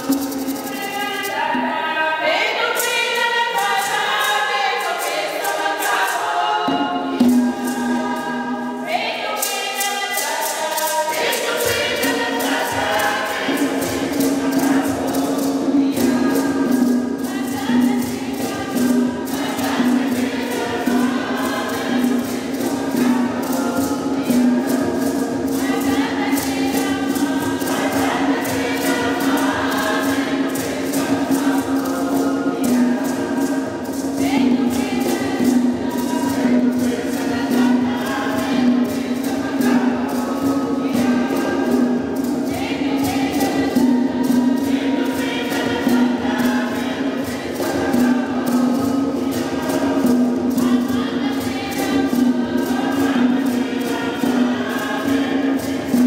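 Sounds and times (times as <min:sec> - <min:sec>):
conga drums: 0:00.0 - 0:56.0
mixed choir singing: 0:00.0 - 0:56.0
sharp percussive beat: 0:00.0 - 0:56.0.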